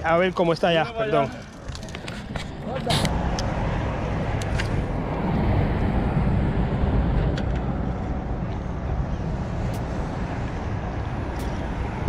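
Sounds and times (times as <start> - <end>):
traffic rumble on bridge: 0.0 - 12.0.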